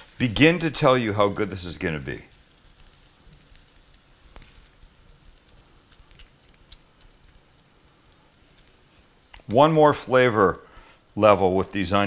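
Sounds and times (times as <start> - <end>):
onions sizzling: 0.0 - 12.0.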